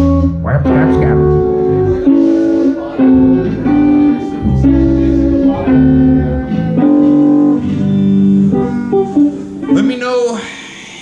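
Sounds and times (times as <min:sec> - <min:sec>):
low bass notes: 0:00.0 - 0:10.0
guitar playing chords: 0:00.0 - 0:11.0.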